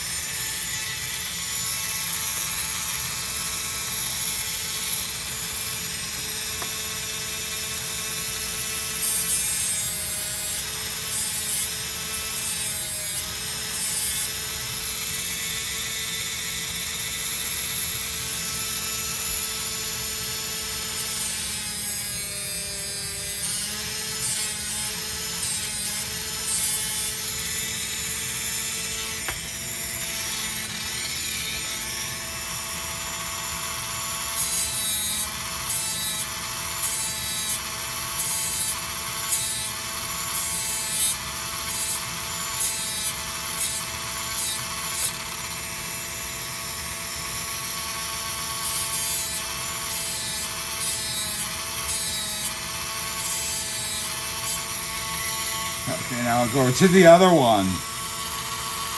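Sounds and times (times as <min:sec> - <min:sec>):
bit grinding wood: 0:00.0 - 0:16.1, 0:17.0 - 0:46.2, 0:47.5 - 0:58.9
rotary tool motor running: 0:00.0 - 0:58.9.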